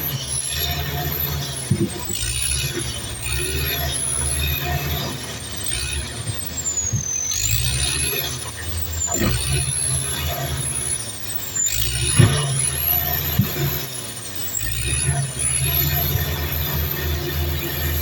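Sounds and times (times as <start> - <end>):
diesel machinery engine drone: 0.0 - 18.0
high gliding whine: 0.0 - 18.0.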